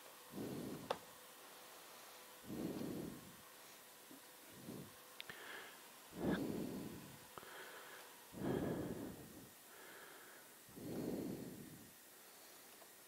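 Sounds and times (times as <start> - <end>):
heavy breathing: 0.3 - 12.9.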